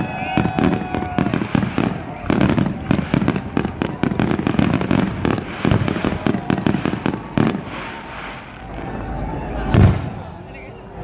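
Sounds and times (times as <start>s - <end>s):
fireworks crackling and banging: 0.0s - 10.9s.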